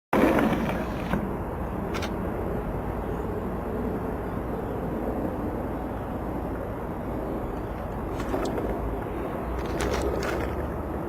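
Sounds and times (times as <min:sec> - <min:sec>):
low outdoor rumble: 0:00.2 - 0:11.0.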